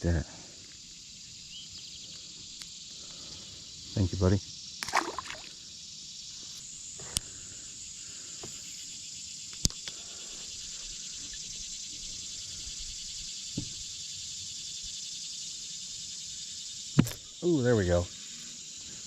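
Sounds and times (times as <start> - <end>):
shrill insect chorus: 0.0 - 19.0.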